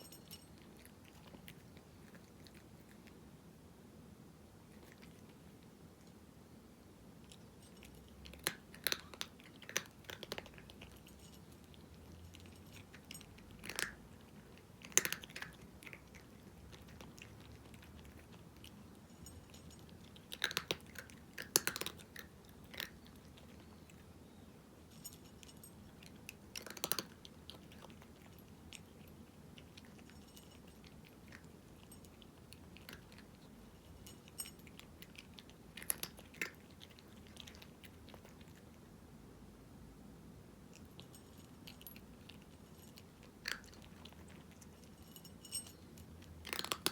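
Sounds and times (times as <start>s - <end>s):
cat crunching dry kibble: 0.0s - 3.4s, 4.6s - 6.2s, 7.1s - 24.2s, 24.8s - 39.0s, 40.7s - 46.9s.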